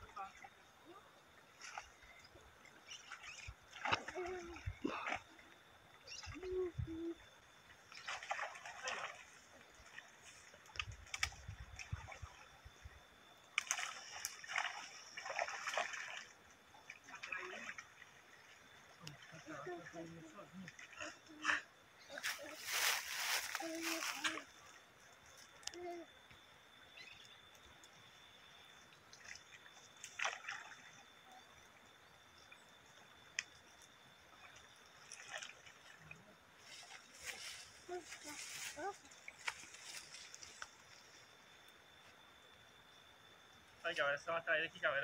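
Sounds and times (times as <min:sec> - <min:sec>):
water splashing and sloshing: 0:00.0 - 0:42.6.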